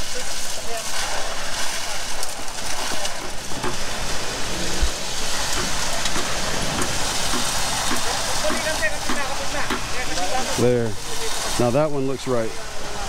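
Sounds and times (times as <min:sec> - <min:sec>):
concrete pump truck running: 0:00.0 - 0:11.0
continuous hissing: 0:00.0 - 0:13.0.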